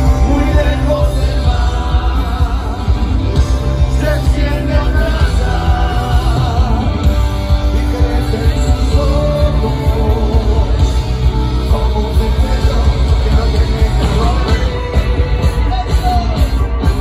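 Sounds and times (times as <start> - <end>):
live rock band playing: 0.0 - 17.0
man singing: 0.0 - 17.0.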